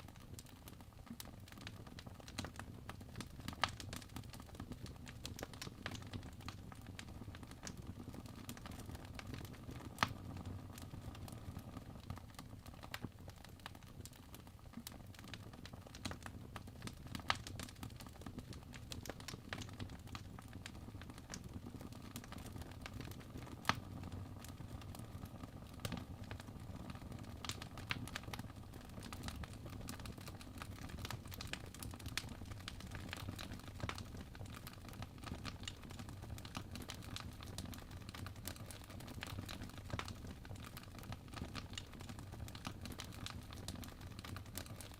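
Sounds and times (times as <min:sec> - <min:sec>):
fireplace crackling: 0:00.0 - 0:44.9.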